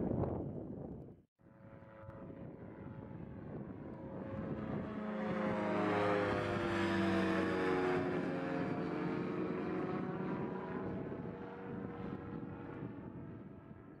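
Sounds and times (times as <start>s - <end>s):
ultralight plane engine and propeller: 0.1s - 14.0s.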